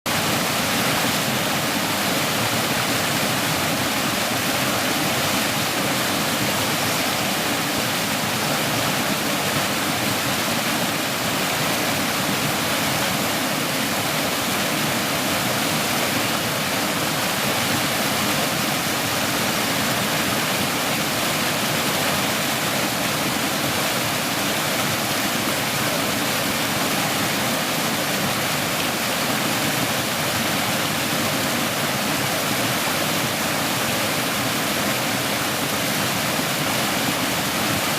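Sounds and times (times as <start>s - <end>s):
stream pouring over small fall: 0.1s - 37.9s.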